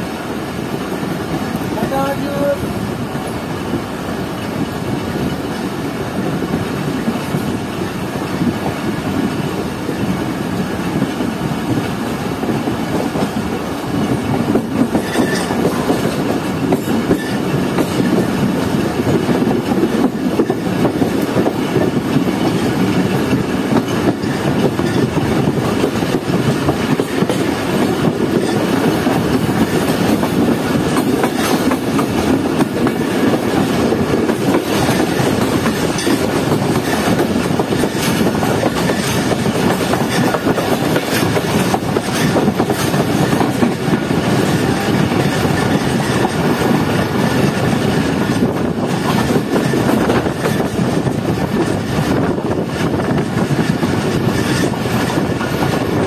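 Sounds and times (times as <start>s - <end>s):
train wheels clickety-clack on rail joints: 0.0s - 56.0s.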